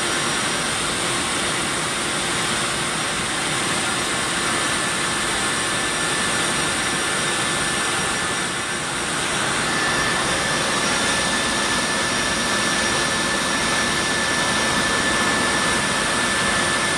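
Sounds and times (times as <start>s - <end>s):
jet engines roaring: 0.0s - 16.9s
thin steady whine: 0.0s - 16.9s.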